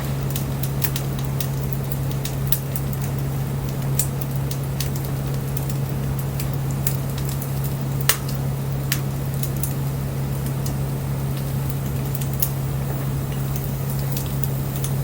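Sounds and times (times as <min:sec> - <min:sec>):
bonfire crackling and popping: 0:00.0 - 0:15.0
steady low hum: 0:00.0 - 0:15.0.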